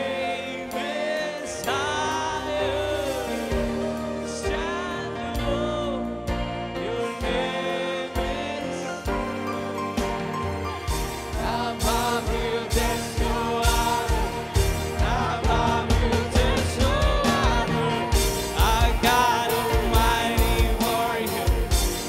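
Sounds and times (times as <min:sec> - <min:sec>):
person singing: 0:00.0 - 0:09.8, 0:11.1 - 0:22.0
live band playing worship song: 0:00.0 - 0:22.0
steady drum beat: 0:03.0 - 0:22.0.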